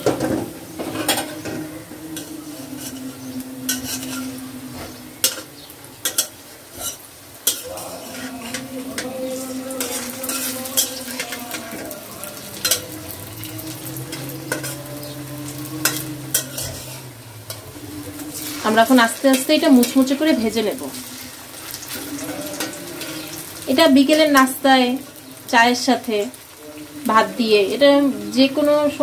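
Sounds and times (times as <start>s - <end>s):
metal spatula scraping pan: 0.0s - 24.5s
food sizzling in hot oil: 0.0s - 29.0s.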